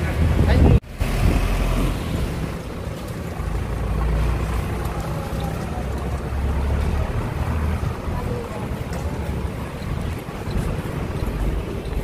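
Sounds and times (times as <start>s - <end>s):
vehicle and road rumble: 0.0s - 12.0s.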